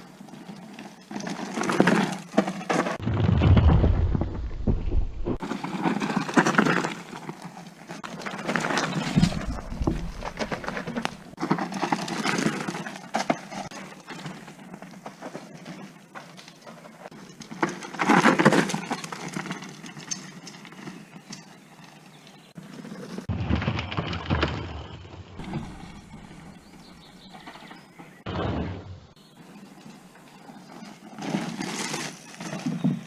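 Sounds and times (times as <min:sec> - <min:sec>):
bike tyres crunching on dirt: 0:00.0 - 0:28.3, 0:29.0 - 0:33.0.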